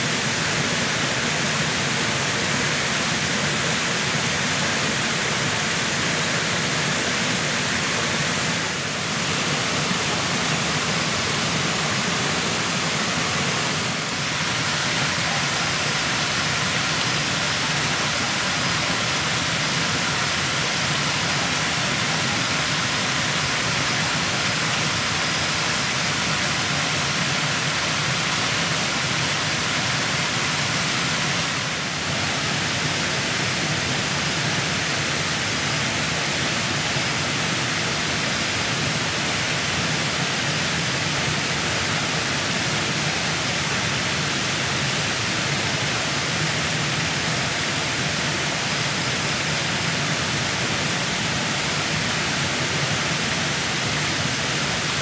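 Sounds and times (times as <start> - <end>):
loud rushing hiss: 0.0 - 55.0.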